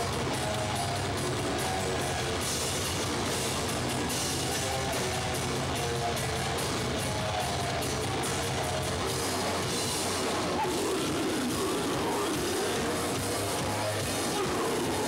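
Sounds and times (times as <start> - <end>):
distorted guitars: 0.0 - 15.0
drums and cymbals: 0.0 - 15.0.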